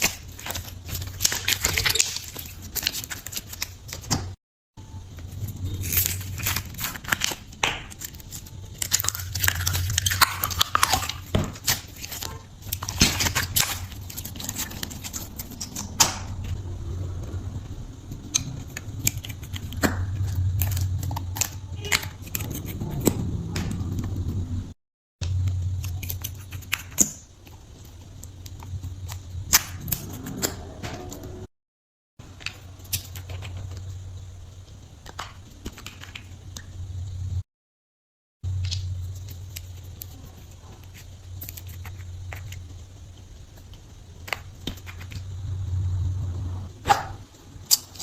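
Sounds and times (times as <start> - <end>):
steady low hum: 0.0 - 31.5, 32.2 - 37.4, 38.4 - 48.0.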